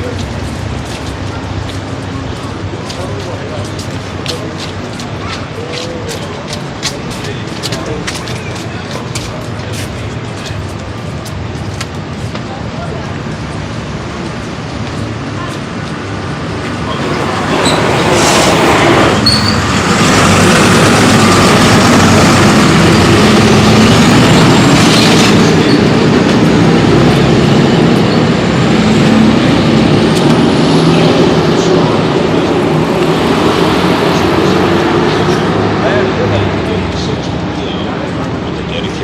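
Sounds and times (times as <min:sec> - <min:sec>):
large vehicle engine rumbling: 0:00.0 - 0:39.0.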